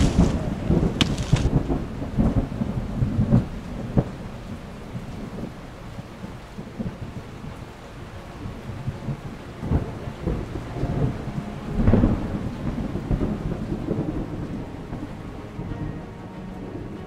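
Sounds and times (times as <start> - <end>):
thunder rumbling: 0.0 - 16.2
steady rain: 0.0 - 17.0.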